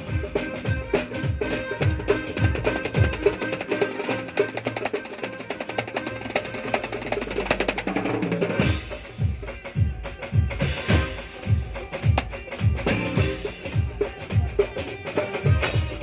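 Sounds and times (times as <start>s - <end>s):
deep booming drum beats: 0.0s - 3.7s, 6.1s - 16.0s
drums in a fast rhythm: 0.0s - 16.0s.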